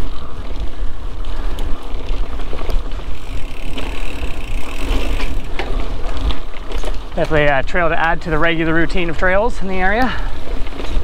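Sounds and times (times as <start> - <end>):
bike clicks and rattles: 0.0 - 11.0
tyre noise on dirt trail: 0.0 - 11.0
wind buffeting microphone: 0.0 - 11.0.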